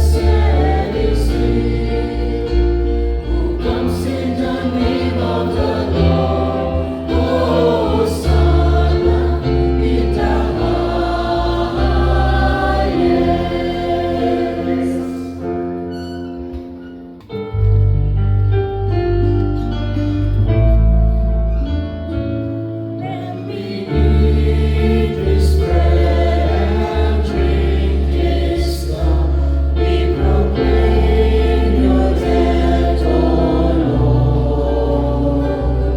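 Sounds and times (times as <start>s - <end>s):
church choir singing: 0.0s - 17.4s, 22.8s - 35.9s
instrumental accompaniment with bass: 0.0s - 35.9s.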